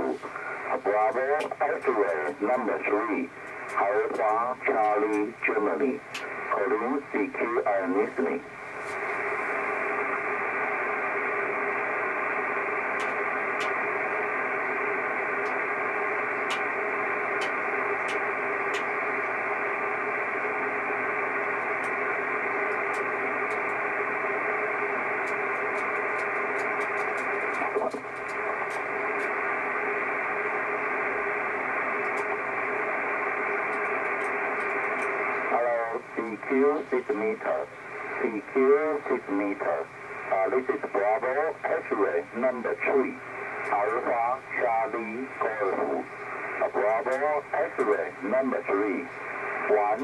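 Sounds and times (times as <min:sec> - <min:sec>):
radio band noise hiss: 0:00.0 - 0:50.0.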